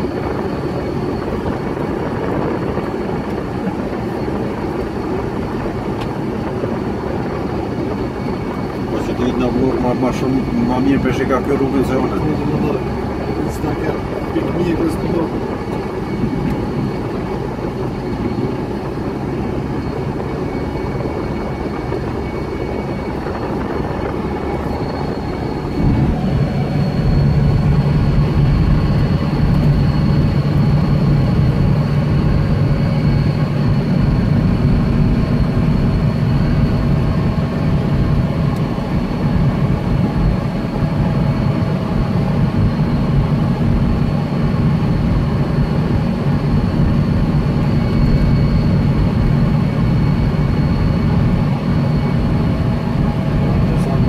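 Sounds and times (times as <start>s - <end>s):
low hum: 0.0s - 54.0s
vehicle engine from inside cabin: 0.0s - 54.0s.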